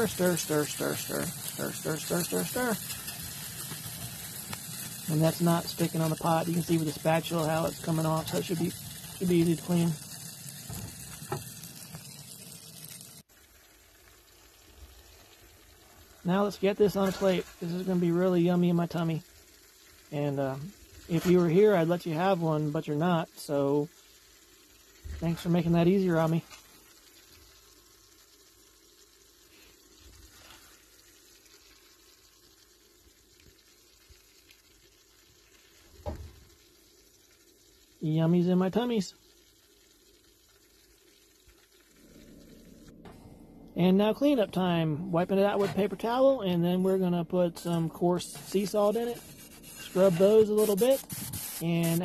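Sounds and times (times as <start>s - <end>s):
gravy sizzling in skillet: 0.0s - 43.1s, 43.9s - 52.0s
faint steady hiss: 0.0s - 52.0s.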